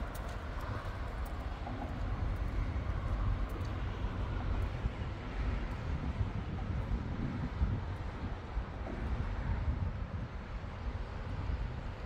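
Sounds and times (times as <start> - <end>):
road traffic on bridge: 0.0 - 12.0
wind buffeting microphone: 0.0 - 12.0.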